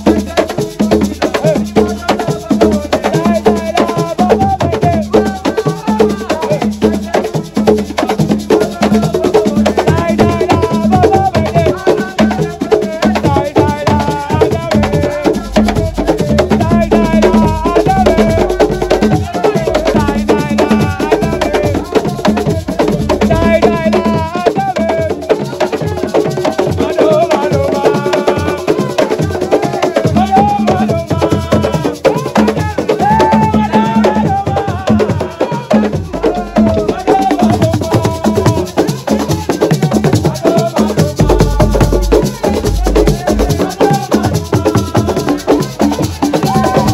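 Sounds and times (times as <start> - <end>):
clacking percussion: 0.0 - 46.9
hand drums: 0.0 - 46.9
person singing: 0.0 - 46.9.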